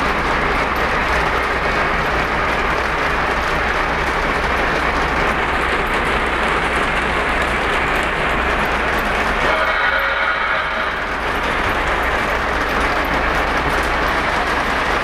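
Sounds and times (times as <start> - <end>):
model train wheels rumbling: 0.0 - 15.0.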